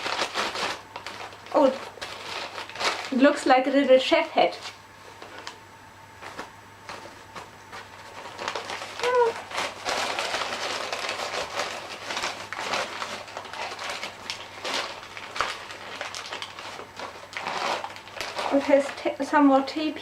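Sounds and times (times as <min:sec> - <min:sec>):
gift wrapping crinkling: 0:00.0 - 0:05.6, 0:06.2 - 0:19.4.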